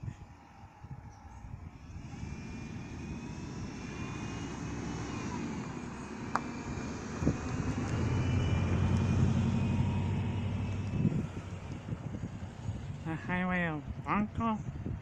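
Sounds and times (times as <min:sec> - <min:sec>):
vehicle engine and rail wheels: 0:00.0 - 0:14.0.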